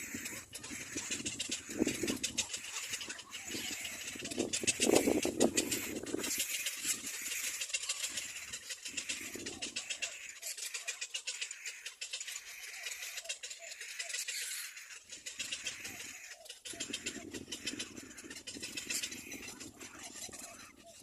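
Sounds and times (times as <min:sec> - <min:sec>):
cormorants rattling chatter: 0:00.0 - 0:21.0.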